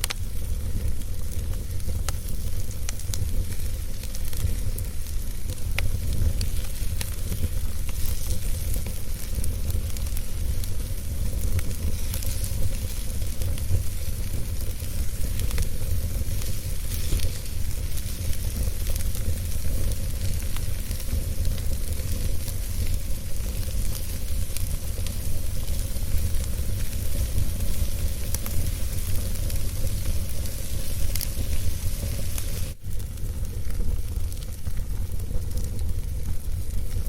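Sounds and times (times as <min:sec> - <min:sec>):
small fire crackles: 0:00.0 - 0:37.0
wood fire burning: 0:00.0 - 0:37.0.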